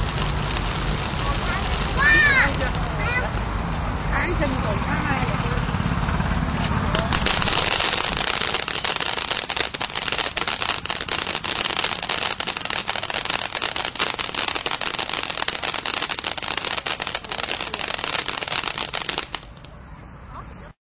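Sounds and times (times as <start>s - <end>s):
firework fountain hissing sparks: 0.0s - 19.7s
rapid crackling: 0.0s - 19.7s.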